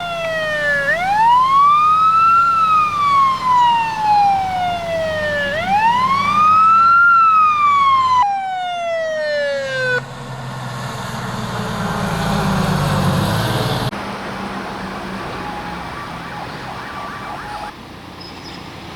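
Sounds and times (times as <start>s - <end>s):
fire truck siren wailing: 0.0s - 17.8s
truck engine hum: 0.0s - 18.9s.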